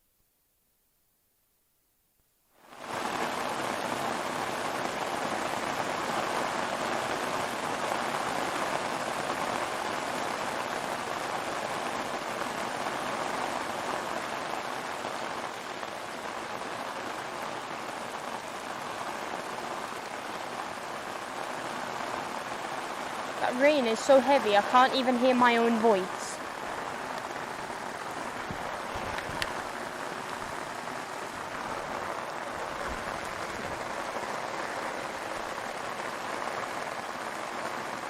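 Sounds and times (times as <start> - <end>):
torrential rain pouring: 2.6 - 38.0.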